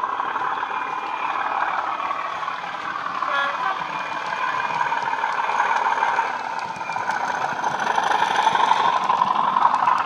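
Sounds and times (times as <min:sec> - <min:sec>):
model diesel engine sound: 0:00.0 - 0:10.0
wheels ticking on track: 0:00.0 - 0:10.0.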